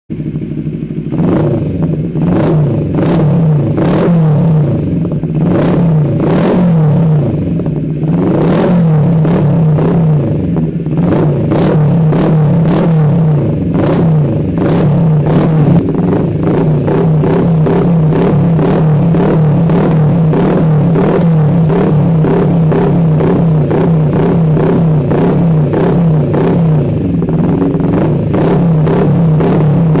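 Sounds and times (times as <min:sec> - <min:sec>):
motorcycle engine running loud: 0:00.1 - 0:30.0.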